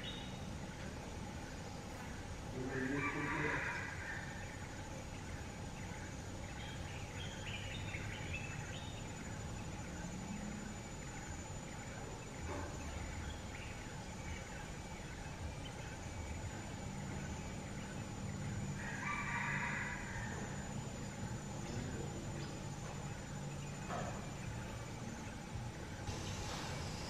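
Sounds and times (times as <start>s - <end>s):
faint high bird chirps: 0.0s - 25.4s
outdoor background noise: 0.0s - 27.0s.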